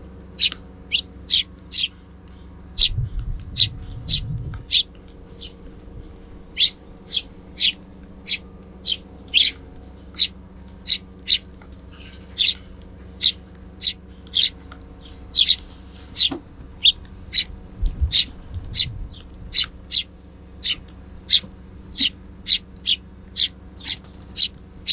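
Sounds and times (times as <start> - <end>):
sparrows chirping: 0.0 - 24.9.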